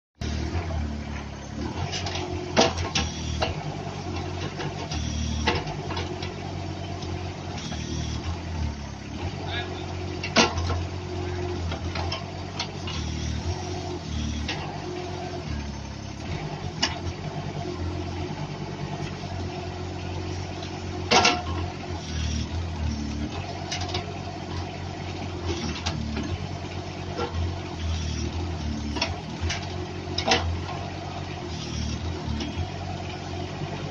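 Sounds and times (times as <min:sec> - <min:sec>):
mini excavator diesel engine: 0:00.2 - 0:33.9.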